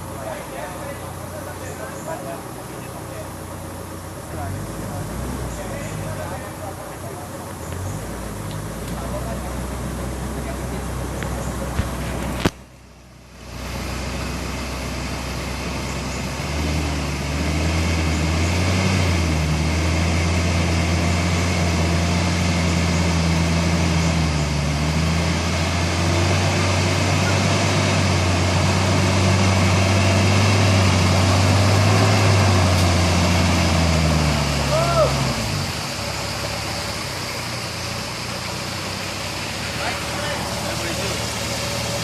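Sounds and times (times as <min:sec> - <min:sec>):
off-road vehicle engine running: 0:00.0 - 0:42.0.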